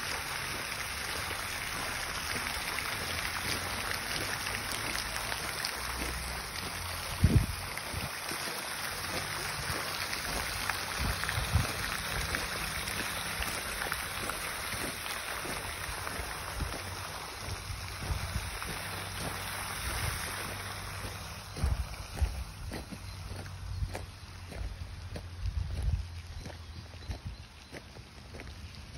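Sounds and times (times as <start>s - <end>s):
footsteps on gravel: 0.5s - 28.9s.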